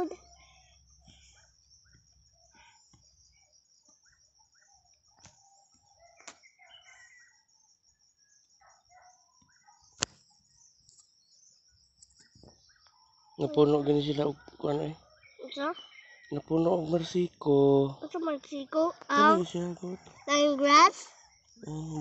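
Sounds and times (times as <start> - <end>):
bird chirps: 0.0 - 22.0
high insect trill: 0.0 - 22.0.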